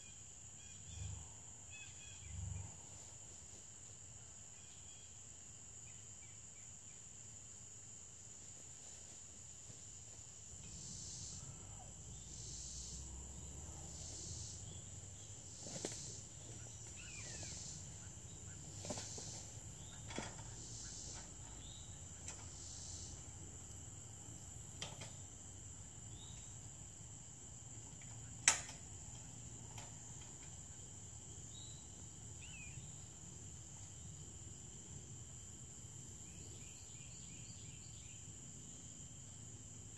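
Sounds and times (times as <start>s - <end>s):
pulsing insect call: 0.0s - 3.1s, 10.4s - 39.9s
crickets and insects chirring: 0.0s - 39.9s.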